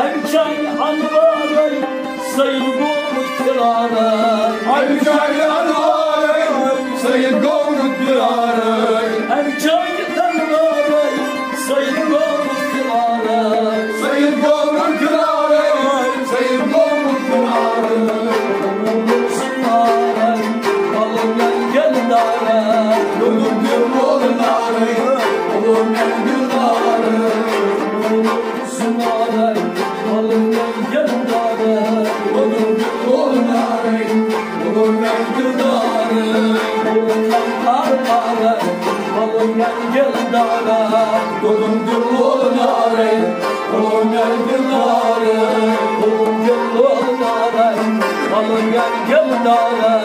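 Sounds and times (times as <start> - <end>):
harmonium melody: 0.0 - 50.0.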